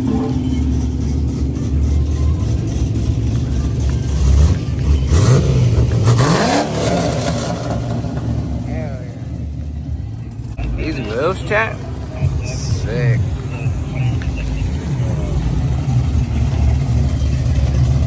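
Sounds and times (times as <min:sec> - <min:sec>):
car engine rumbling and revving: 0:00.0 - 0:18.0.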